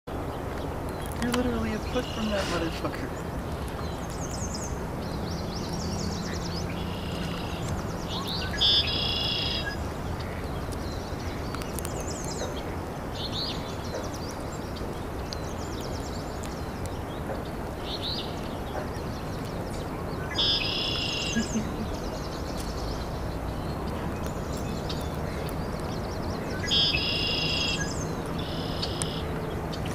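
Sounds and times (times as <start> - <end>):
outdoor background noise: 0.1 - 29.9.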